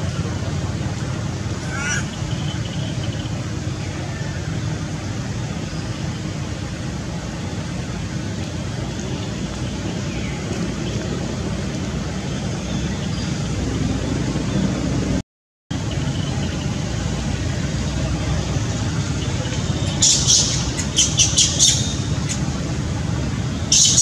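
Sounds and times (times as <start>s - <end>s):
outdoor rumble and hiss: 0.0s - 24.0s.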